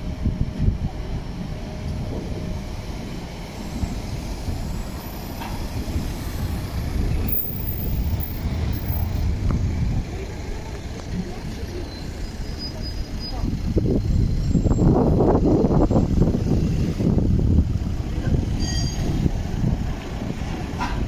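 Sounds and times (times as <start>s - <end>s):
street traffic rumbling: 0.0s - 21.0s
tram rumbling past: 0.0s - 21.0s.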